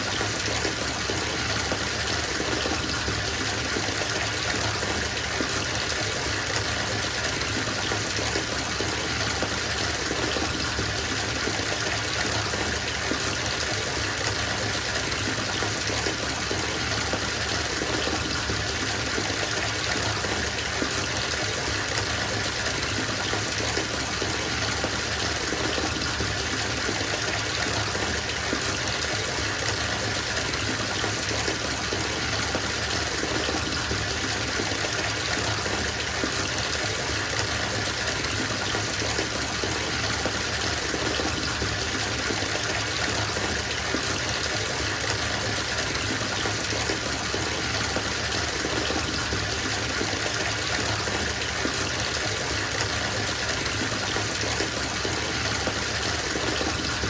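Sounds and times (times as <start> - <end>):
water pouring into bathtub: 0.0 - 57.0.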